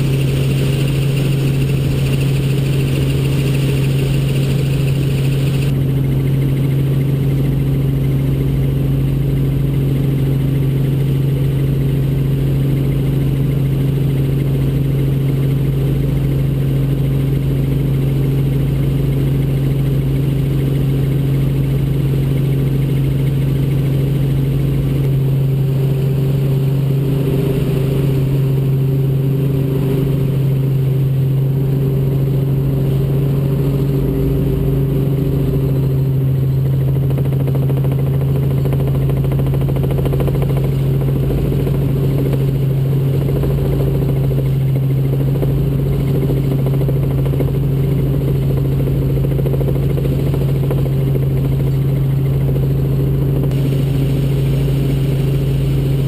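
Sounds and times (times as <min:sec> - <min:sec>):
helicopter engine and rotors drone: 0:00.0 - 0:56.0.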